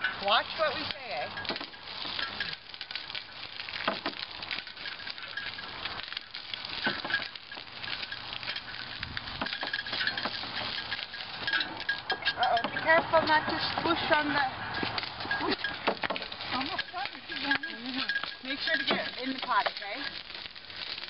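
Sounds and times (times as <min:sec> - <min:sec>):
canes crackling in a press: 0:00.0 - 0:21.0.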